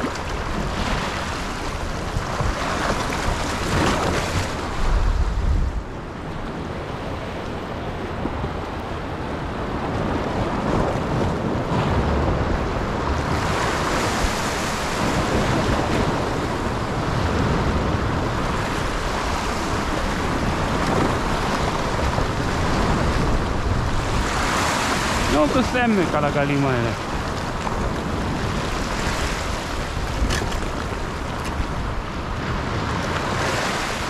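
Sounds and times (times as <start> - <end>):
sea waves: 0.0 - 34.0
wind buffeting the microphone: 0.0 - 34.0.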